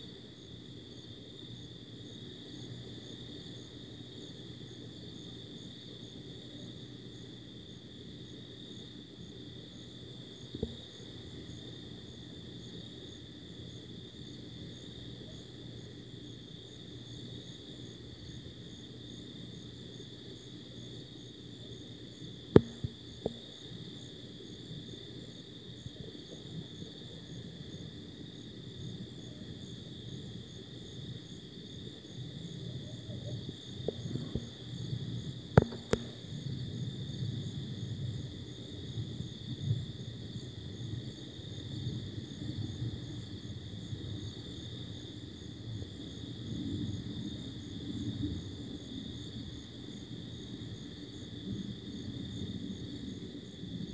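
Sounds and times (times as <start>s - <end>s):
night insects chorus: 0.0s - 53.9s.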